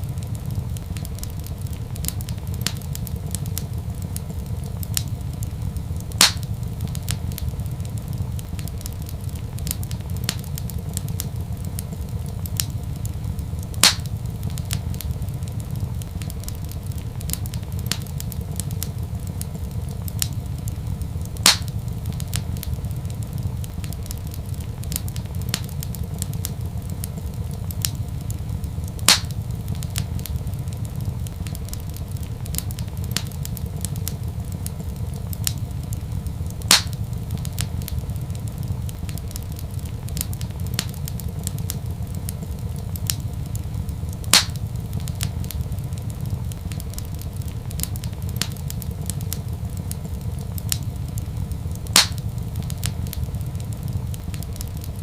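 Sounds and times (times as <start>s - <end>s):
sharp fire pops: 0.0s - 55.0s
wood fire crackling: 0.0s - 55.0s.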